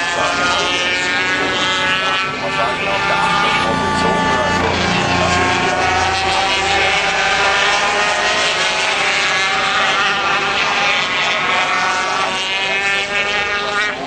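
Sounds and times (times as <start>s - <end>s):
racing motorcycle engines revving: 0.0s - 14.0s.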